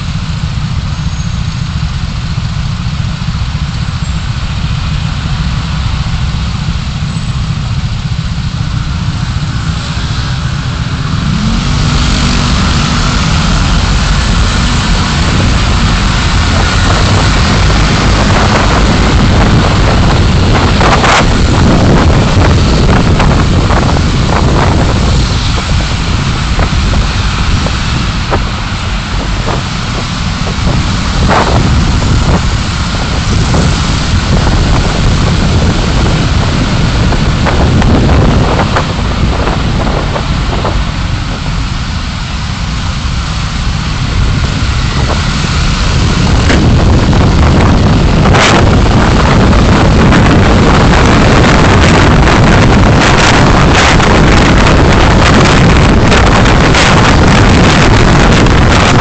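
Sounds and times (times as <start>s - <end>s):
road and wind noise rumble: 0.0s - 59.0s.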